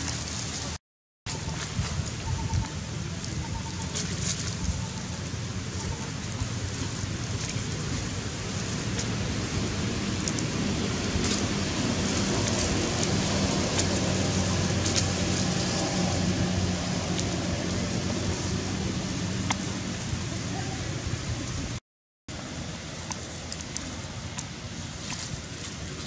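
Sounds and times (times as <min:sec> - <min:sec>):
low hum: 0:01.3 - 0:26.0.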